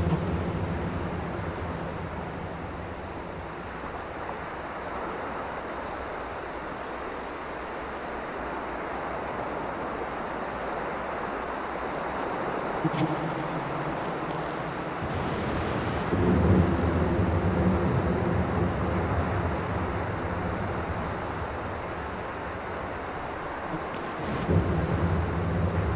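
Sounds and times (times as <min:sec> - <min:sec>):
processed water rushing: 0:00.0 - 0:25.9.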